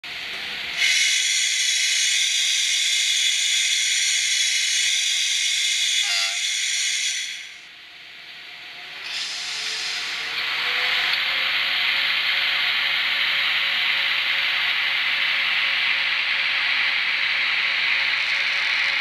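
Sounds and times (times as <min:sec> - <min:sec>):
hissing whine with high tones: 0:00.6 - 0:19.0.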